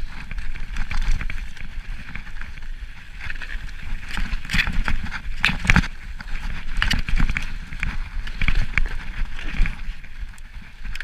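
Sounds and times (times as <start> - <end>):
mountain bike clattering over rocks: 0.0 - 11.0.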